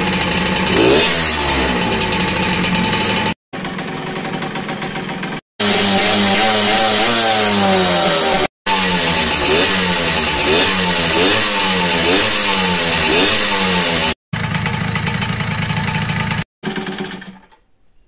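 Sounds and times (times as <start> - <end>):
moped engine revving: 0.0 - 17.5.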